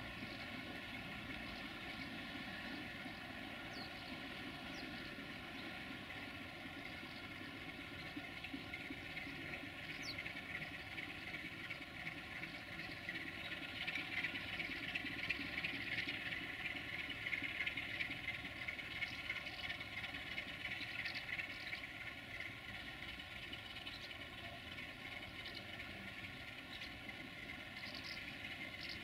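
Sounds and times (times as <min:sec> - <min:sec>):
diesel locomotive engine humming: 0:00.0 - 0:29.0.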